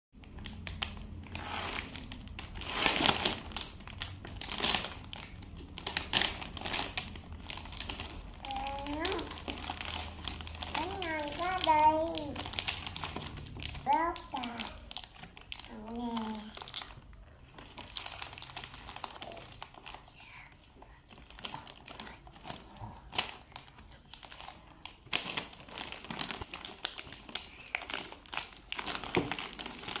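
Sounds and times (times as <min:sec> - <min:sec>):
plastic bag crinkling: 0:00.2 - 0:30.0.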